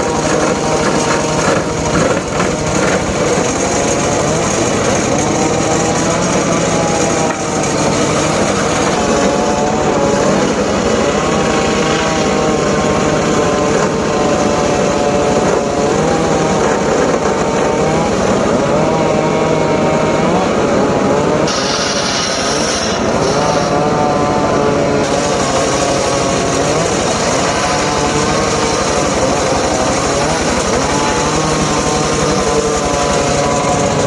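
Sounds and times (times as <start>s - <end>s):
circular saw cutting wood: 0.0s - 34.0s
high whine: 0.0s - 34.0s.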